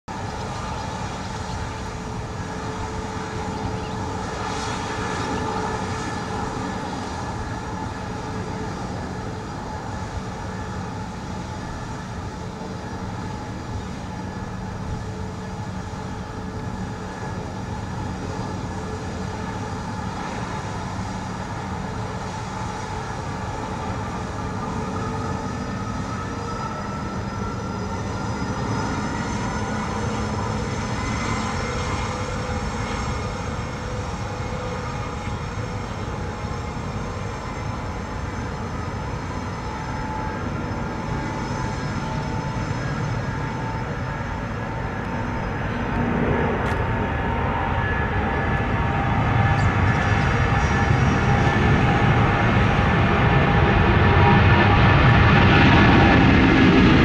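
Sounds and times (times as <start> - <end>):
jet engines whining: 0.1 - 57.0
jet engine spooling up: 0.4 - 57.0.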